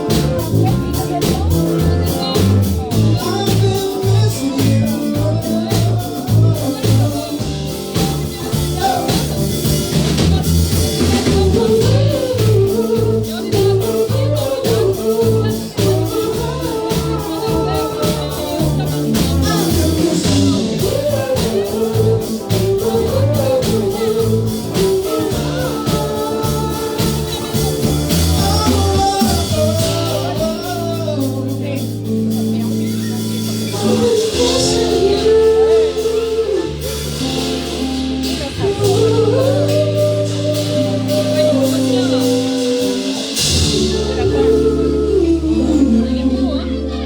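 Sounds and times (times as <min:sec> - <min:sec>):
person singing lead: 0:00.0 - 0:47.0
rock band playing: 0:00.0 - 0:47.0.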